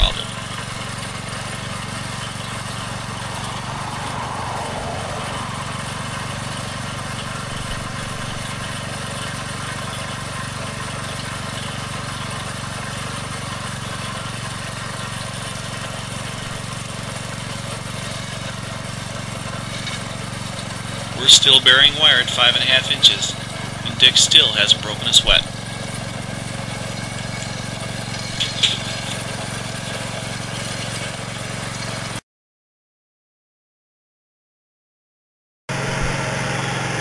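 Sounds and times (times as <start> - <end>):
small engine running under load: 0.0 - 32.2, 35.7 - 37.0.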